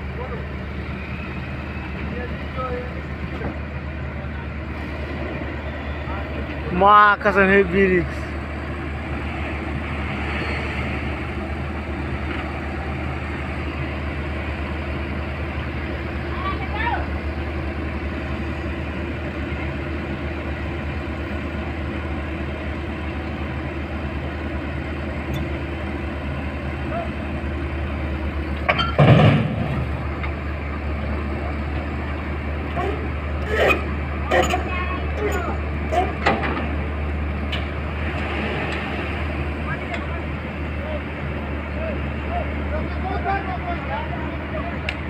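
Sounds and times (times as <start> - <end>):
excavator diesel engine humming: 0.0 - 45.0.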